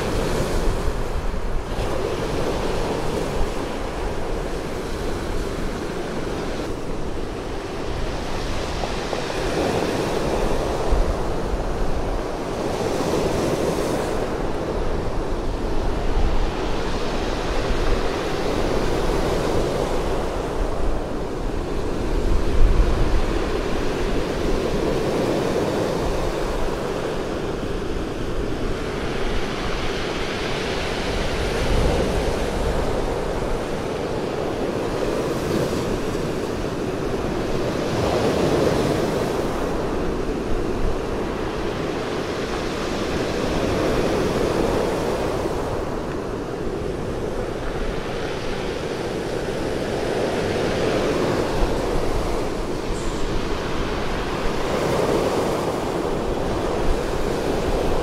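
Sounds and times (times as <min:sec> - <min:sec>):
surf on pebble beach: 0:00.0 - 0:58.0
wind buffeting microphone: 0:00.0 - 0:58.0.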